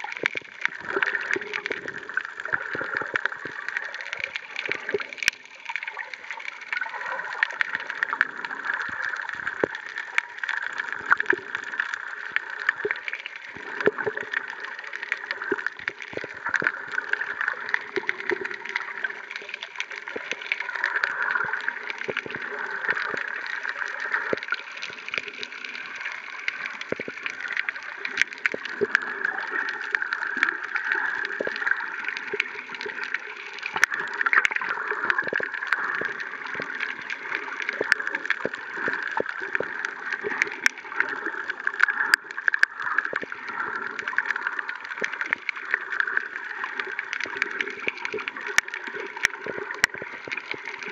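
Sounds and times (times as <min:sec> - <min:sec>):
muffled underwater hiss: 0:00.0 - 0:50.9
sharp underwater clicks and crackles: 0:00.0 - 0:50.9.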